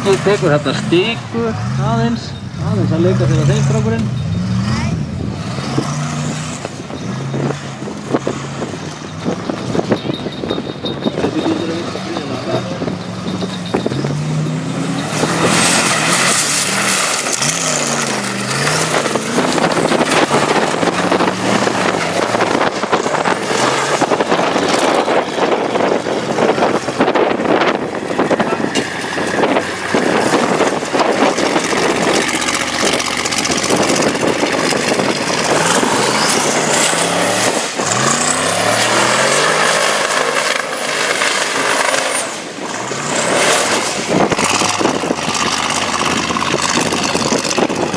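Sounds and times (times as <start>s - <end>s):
race engine revving hard: 0.0s - 9.9s, 11.2s - 47.9s.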